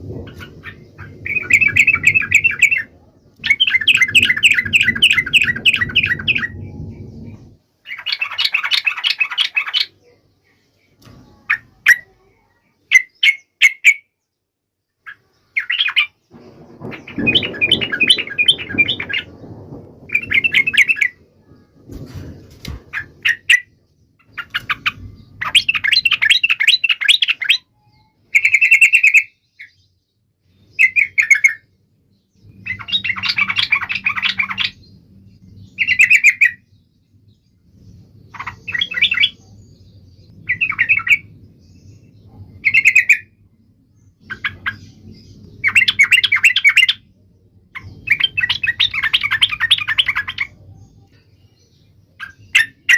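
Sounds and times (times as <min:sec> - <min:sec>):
bird chattering song: 0:00.1 - 0:14.2, 0:15.0 - 0:21.7, 0:22.8 - 0:36.9, 0:37.8 - 0:52.9.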